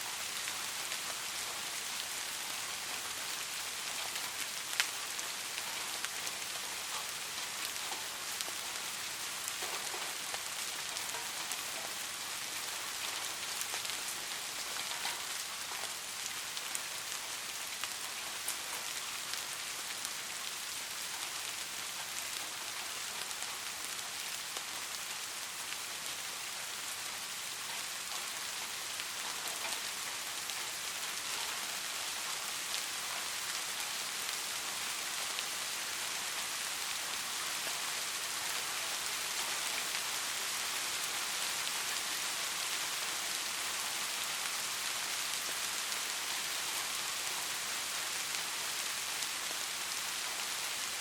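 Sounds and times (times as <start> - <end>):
steady rainfall hiss: 0.0 - 51.0.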